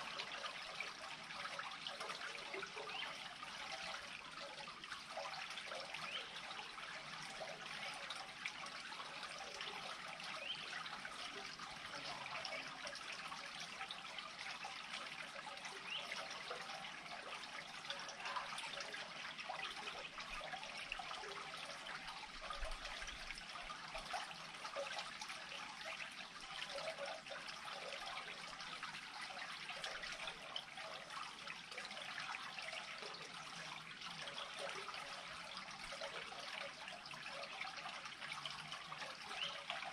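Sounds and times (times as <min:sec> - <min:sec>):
water trickling into culvert: 0:00.0 - 0:39.9.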